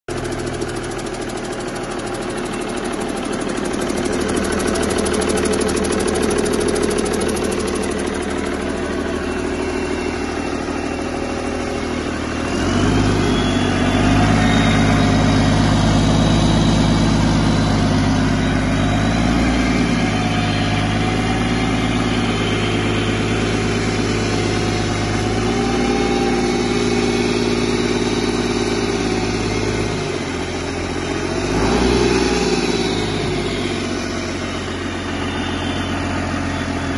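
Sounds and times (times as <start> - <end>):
diesel engine running: 0.1 - 36.9
high whine: 0.8 - 36.9.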